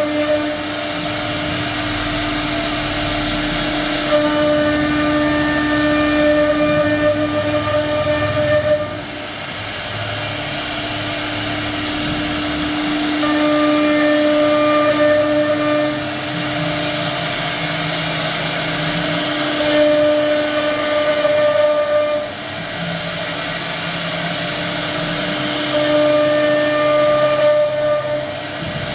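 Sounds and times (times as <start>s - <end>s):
router bit cutting wood: 0.0s - 28.9s
router spindle whining: 0.0s - 28.9s.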